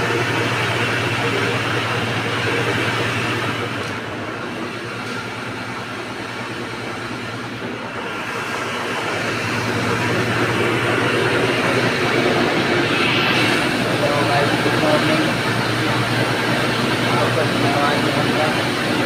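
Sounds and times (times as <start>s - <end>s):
electric flour mill droning: 0.0s - 19.0s.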